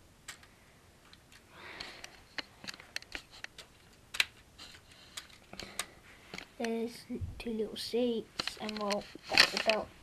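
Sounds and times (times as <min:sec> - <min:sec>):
plastic lego clicks: 0:00.2 - 0:06.8, 0:08.4 - 0:09.9.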